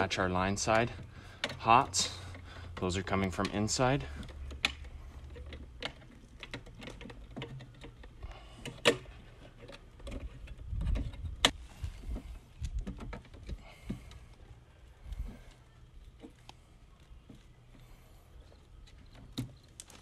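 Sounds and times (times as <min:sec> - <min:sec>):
wires clicking in metal box: 0:00.0 - 0:11.6, 0:15.5 - 0:20.0.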